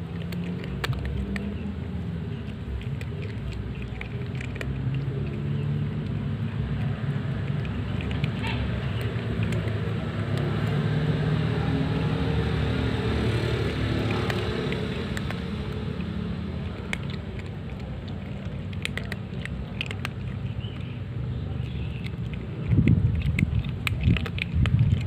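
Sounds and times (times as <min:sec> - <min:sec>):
low motor rumble: 0:00.0 - 0:25.0.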